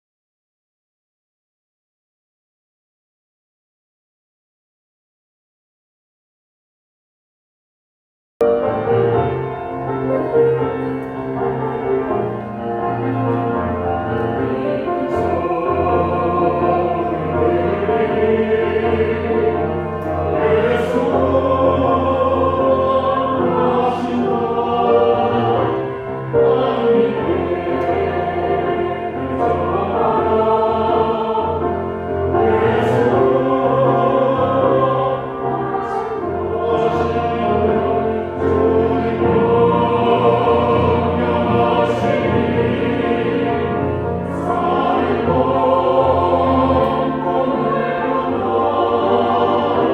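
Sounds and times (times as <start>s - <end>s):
choir singing a hymn: 8.4s - 49.9s.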